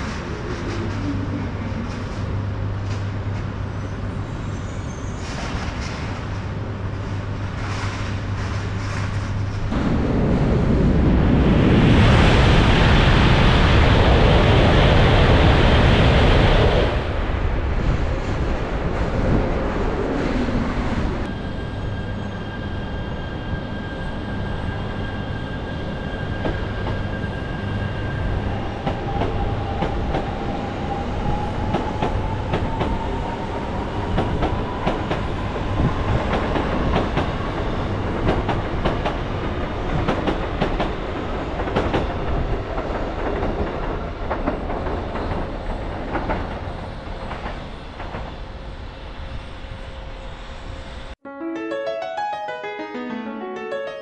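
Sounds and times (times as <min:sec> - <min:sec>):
train rumble: 0:00.0 - 0:51.2.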